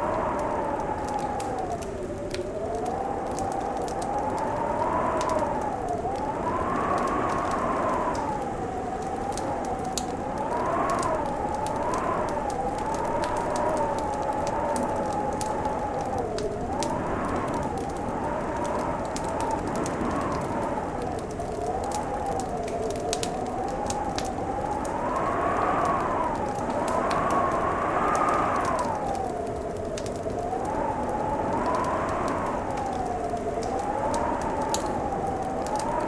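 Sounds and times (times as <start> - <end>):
wind howling: 0.0 - 36.0
wood fire crackling: 0.0 - 36.0.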